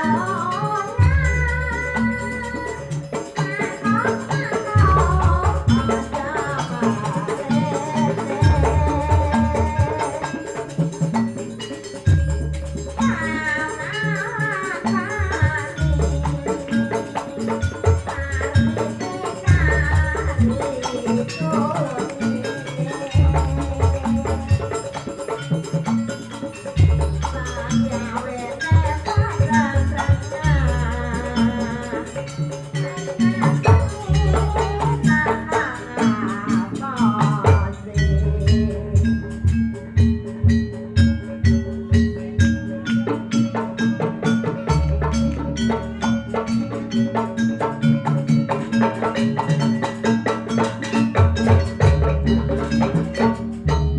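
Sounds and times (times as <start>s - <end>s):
clicking percussion: 0.0s - 53.9s
percussion ensemble rhythm: 0.0s - 53.9s
wavering melodic line: 0.0s - 53.9s.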